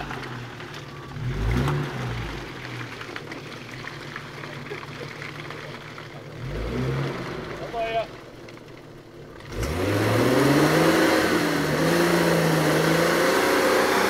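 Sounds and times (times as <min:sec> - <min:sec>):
engine revving in mud: 0:00.0 - 0:14.0.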